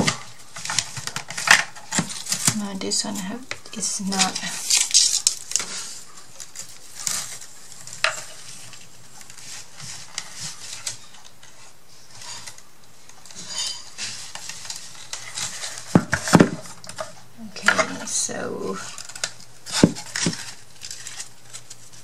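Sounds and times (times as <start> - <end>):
paper rustling and scraping: 0.0 - 22.0.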